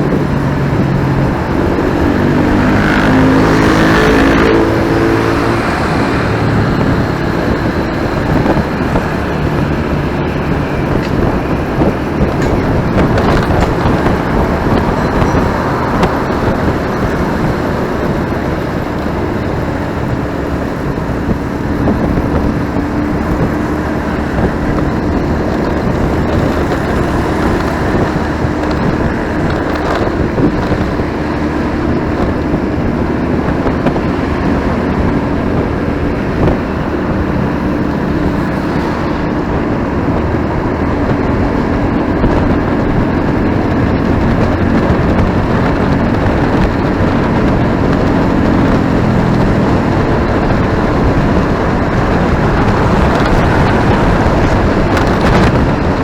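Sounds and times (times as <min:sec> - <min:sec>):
motorcycle engine hum: 0:00.0 - 0:56.0
traffic noise: 0:00.0 - 0:56.0
wind rush: 0:00.0 - 0:56.0.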